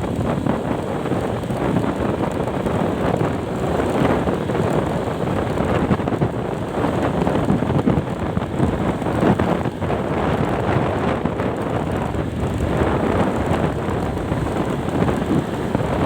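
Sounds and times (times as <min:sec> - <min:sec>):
road noise: 0:00.0 - 0:16.0
wind rushing over microphone: 0:00.0 - 0:16.0.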